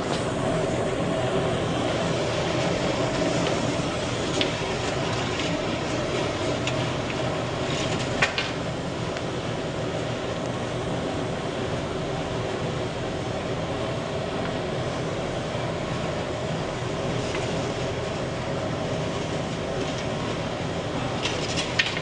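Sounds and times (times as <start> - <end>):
bakery equipment humming: 0.0 - 22.0.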